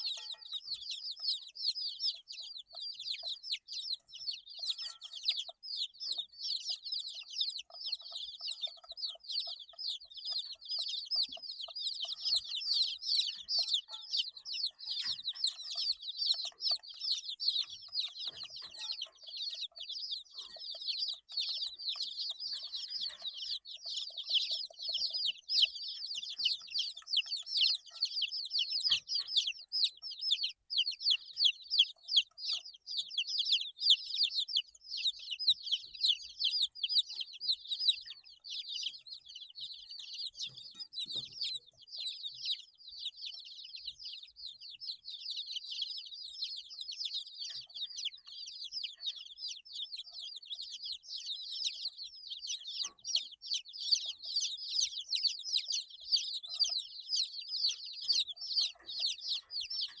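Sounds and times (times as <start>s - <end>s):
baby chicks peeping: 0.0s - 60.0s.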